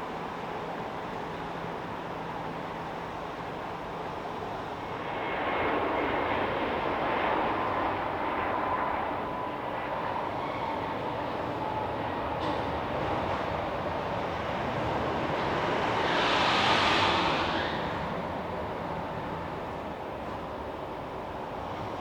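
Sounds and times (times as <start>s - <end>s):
jet airliner engines rumbling: 0.0s - 22.0s.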